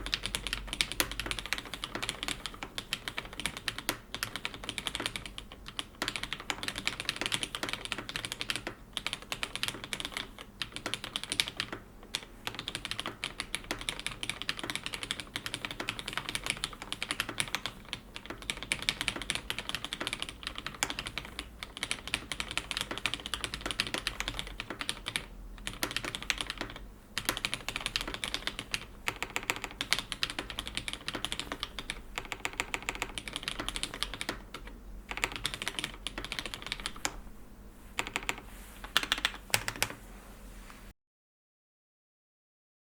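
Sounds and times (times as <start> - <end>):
fast keyboard typing: 0.0 - 37.3, 38.0 - 40.0.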